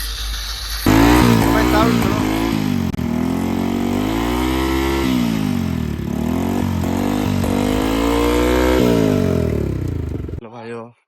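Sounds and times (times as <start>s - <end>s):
motorcycle engine revving: 0.9s - 10.4s.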